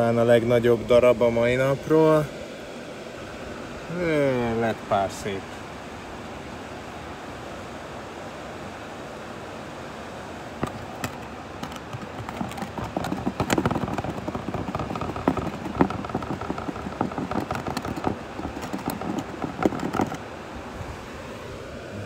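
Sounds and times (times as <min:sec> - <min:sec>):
river rushing: 0:01.2 - 0:22.0.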